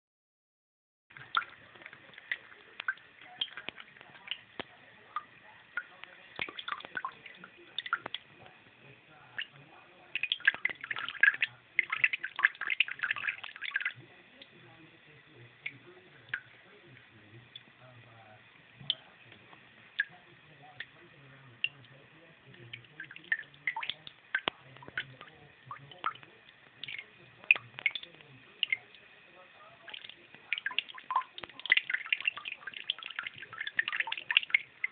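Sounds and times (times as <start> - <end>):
cat lapping water: 1.1 - 17.7, 18.8 - 34.9
running water hiss: 1.2 - 34.9.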